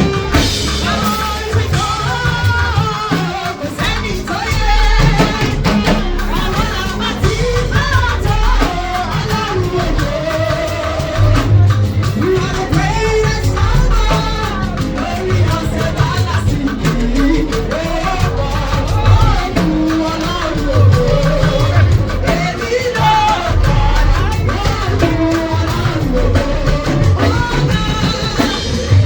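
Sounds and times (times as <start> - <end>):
drums and bass: 0.0 - 29.0
person singing: 0.0 - 29.0.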